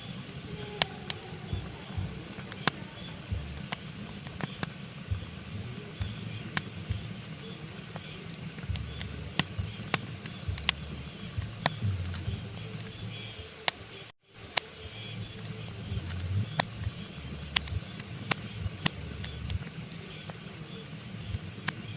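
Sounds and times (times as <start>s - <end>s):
low steady rumble: 0.0s - 13.4s, 14.8s - 21.9s
logs crackling and popping in fireplace: 0.0s - 13.8s, 14.4s - 21.9s
faint hiss: 0.0s - 21.9s.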